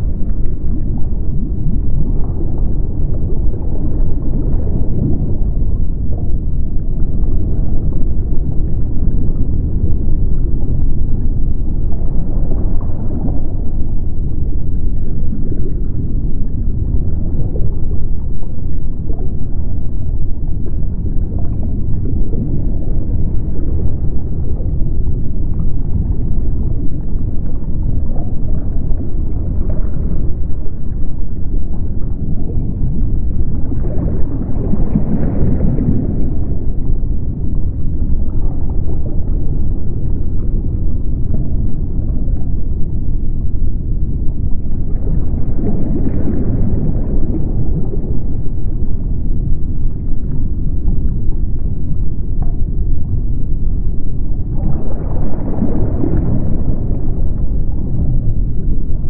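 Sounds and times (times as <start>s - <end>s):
underwater water rumble: 0.0s - 59.0s.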